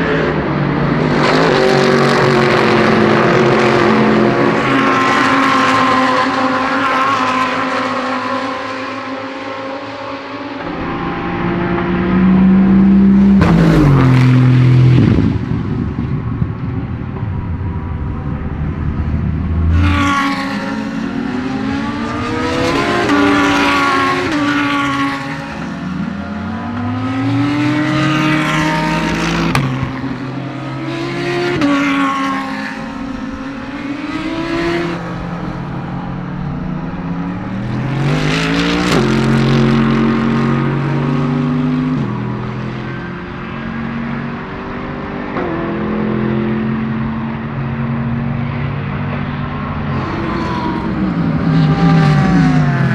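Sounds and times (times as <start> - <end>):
race cars accelerating through gears: 0.0 - 52.9
race cars passing by: 0.0 - 52.9.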